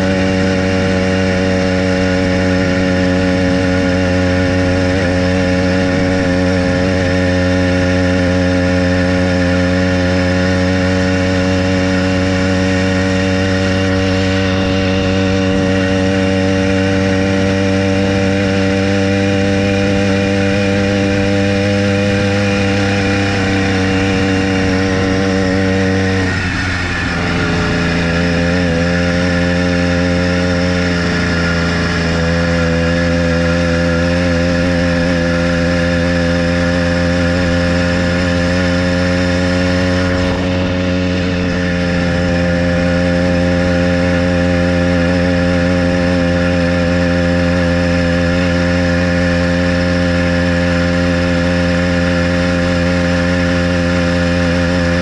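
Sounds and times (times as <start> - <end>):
motorized bicycle engine running: 0.8 - 55.0.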